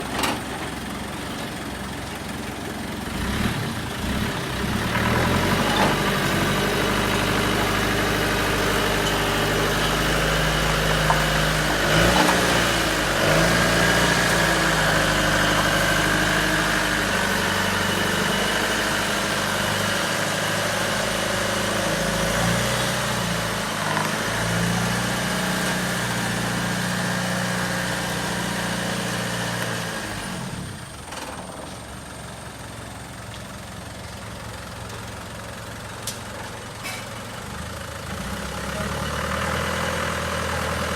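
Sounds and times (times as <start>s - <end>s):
car engine running: 0.0s - 36.7s.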